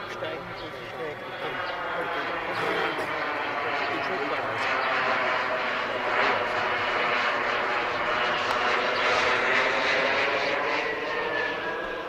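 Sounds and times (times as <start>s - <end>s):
model jet engine rushing: 0.0s - 12.0s.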